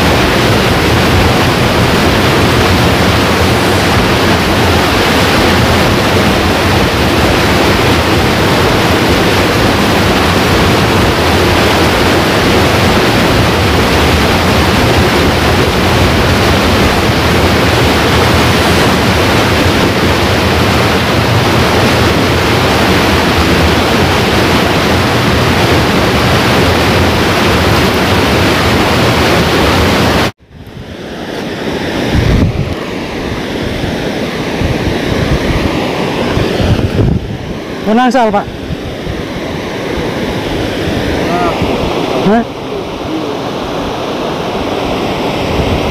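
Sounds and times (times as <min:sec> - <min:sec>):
river water flowing: 0:00.0 - 0:45.9
wind buffeting microphone: 0:00.0 - 0:45.9.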